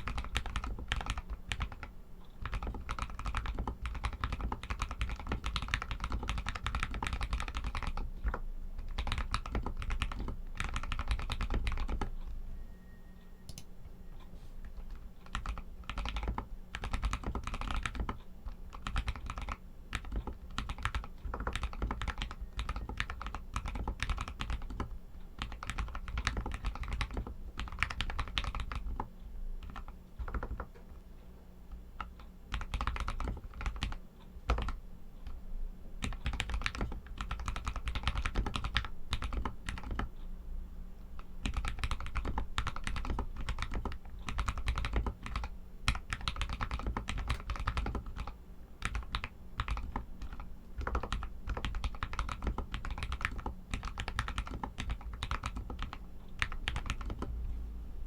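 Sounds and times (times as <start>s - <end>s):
mechanical keyboard typing: 0.0s - 12.3s, 14.8s - 31.0s, 32.0s - 35.4s, 36.0s - 40.1s, 41.2s - 57.3s.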